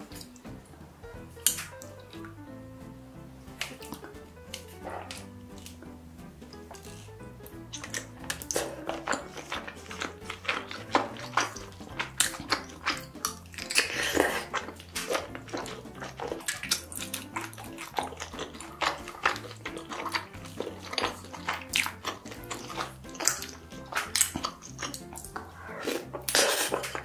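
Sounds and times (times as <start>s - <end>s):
wet chewing of food: 0.0s - 2.6s, 3.4s - 27.0s
faint background music: 0.0s - 27.0s.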